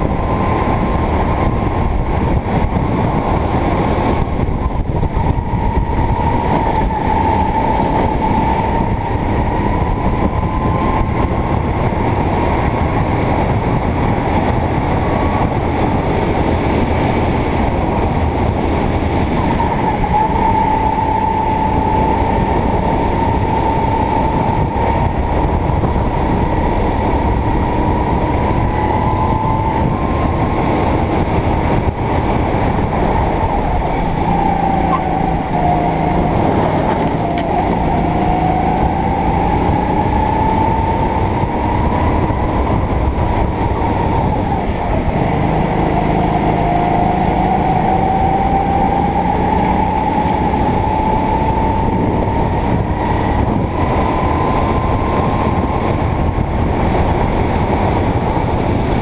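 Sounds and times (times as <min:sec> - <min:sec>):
kart engine running hard: 0:00.0 - 0:59.0
steady rushing noise: 0:00.0 - 0:59.0.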